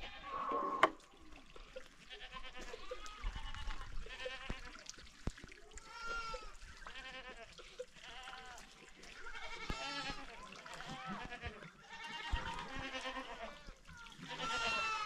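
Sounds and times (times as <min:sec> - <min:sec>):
goats and sheep bleating: 0:00.0 - 0:00.5, 0:01.6 - 0:04.8, 0:05.8 - 0:15.0.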